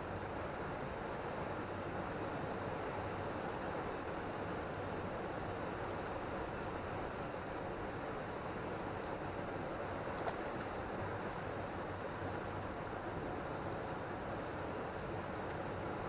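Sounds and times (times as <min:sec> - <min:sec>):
river rushing: 0:00.1 - 0:07.8, 0:08.4 - 0:16.0.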